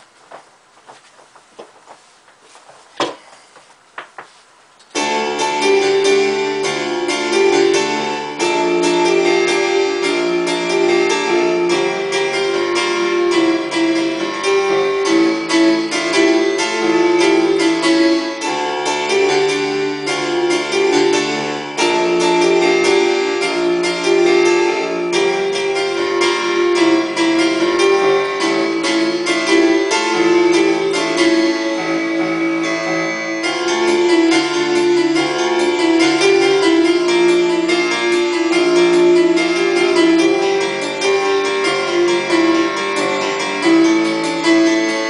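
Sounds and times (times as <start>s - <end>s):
electronic keyboard piano melody: 4.9s - 45.0s.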